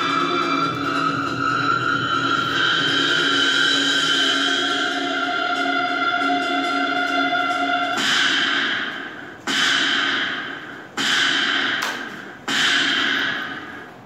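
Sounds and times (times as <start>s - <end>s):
music over loudspeakers: 0.0s - 14.0s.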